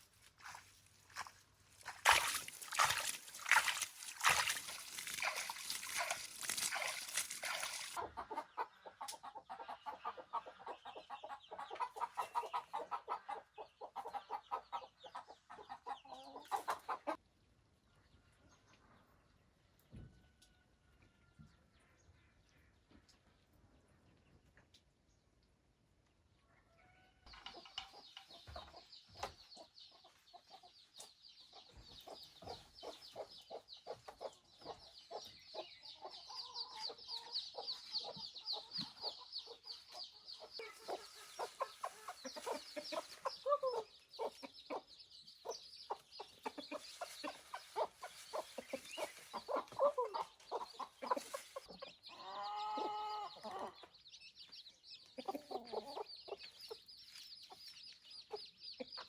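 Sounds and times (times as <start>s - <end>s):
chickens clucking: 1.2s - 17.3s, 26.4s - 59.0s.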